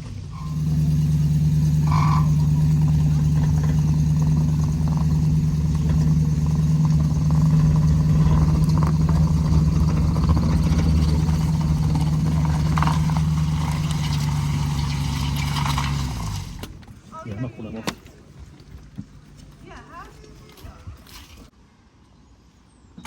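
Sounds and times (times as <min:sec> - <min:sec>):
vehicle engine idling: 0:00.0 - 0:19.7.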